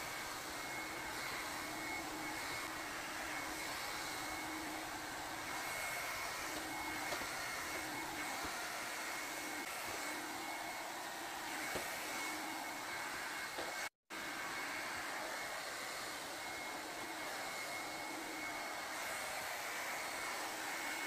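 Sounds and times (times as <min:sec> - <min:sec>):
hair dryer blowing: 0:00.0 - 0:21.0.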